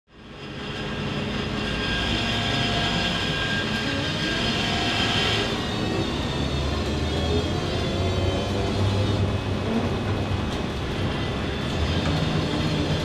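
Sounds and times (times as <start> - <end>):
low rumble of bus ride: 0.1 - 13.0
electric traction drive whining: 0.2 - 13.0.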